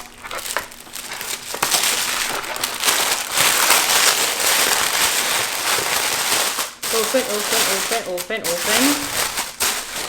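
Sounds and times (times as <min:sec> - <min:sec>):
wrapping paper crinkling and tearing: 0:00.0 - 0:10.0.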